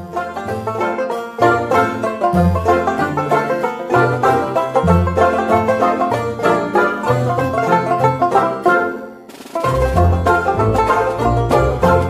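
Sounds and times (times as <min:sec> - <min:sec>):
steady bass line: 0:00.0 - 0:08.4, 0:09.6 - 0:12.0
plucked string notes: 0:00.0 - 0:12.0.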